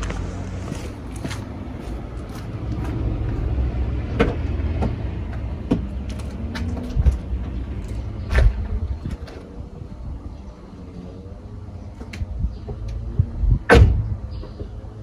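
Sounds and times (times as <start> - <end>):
car engine rumbling: 0.0 - 14.8.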